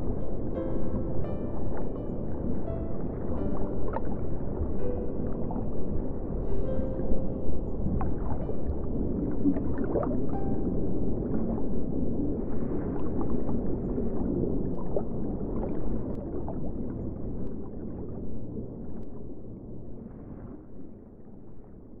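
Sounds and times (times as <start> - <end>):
underwater gurgling rumble: 0.0 - 22.0.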